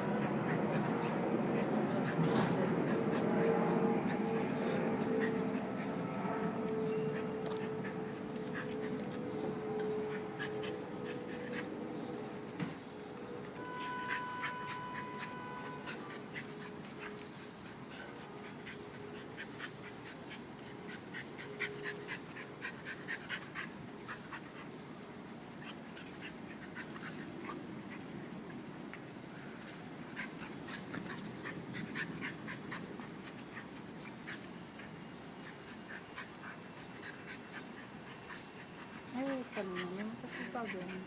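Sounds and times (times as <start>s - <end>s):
dogs playing with scuffles: 0.0s - 41.0s.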